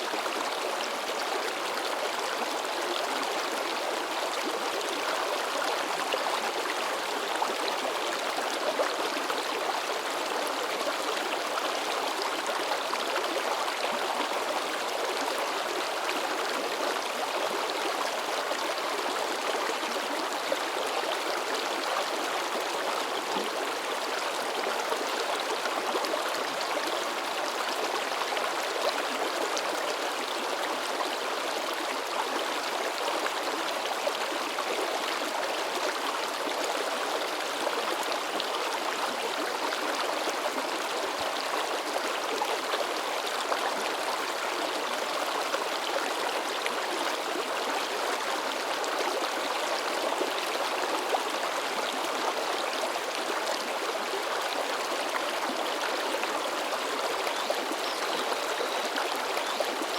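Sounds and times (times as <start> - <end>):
river babbling and splashing: 0.0 - 59.9.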